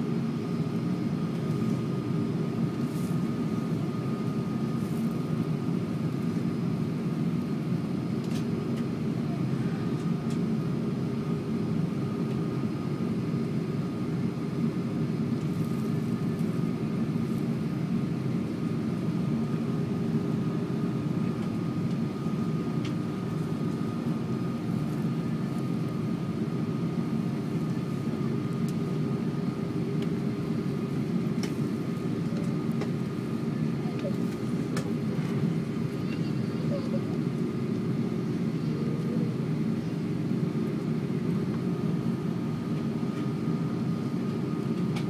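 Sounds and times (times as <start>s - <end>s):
jet engine rumble in cabin: 0.0s - 45.0s.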